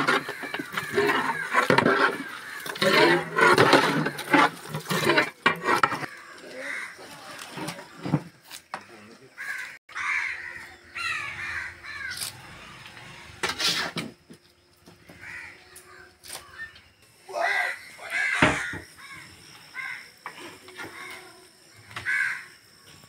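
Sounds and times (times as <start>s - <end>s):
birds cawing: 0.0s - 4.2s, 5.6s - 8.0s, 8.7s - 13.4s, 14.9s - 23.0s.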